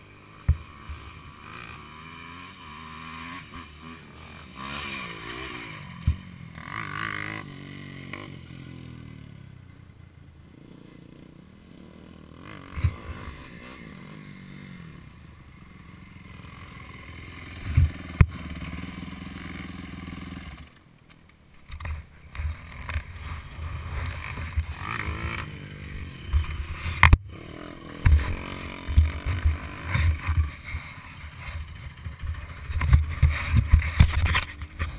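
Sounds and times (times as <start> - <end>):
dirt bike engines revving: 0.0 - 20.9, 21.5 - 34.9.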